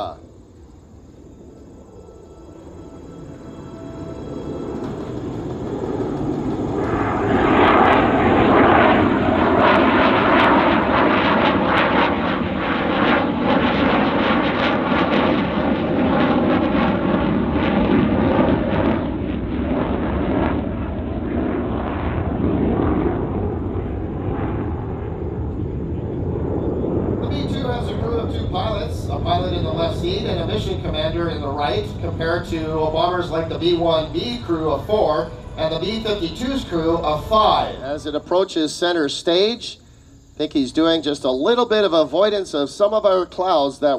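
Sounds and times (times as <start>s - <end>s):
jet aircraft flying past: 0.0s - 43.9s.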